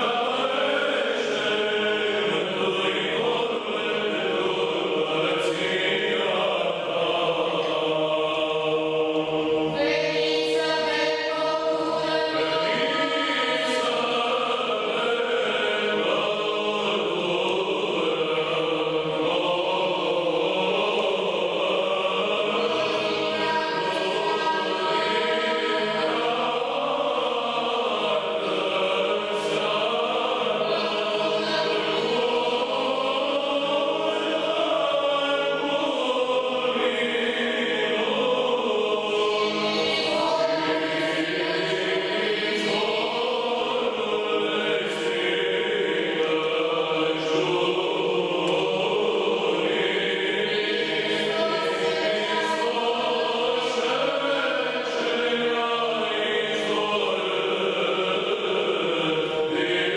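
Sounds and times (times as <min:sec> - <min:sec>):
choir chanting: 0:00.0 - 0:59.9.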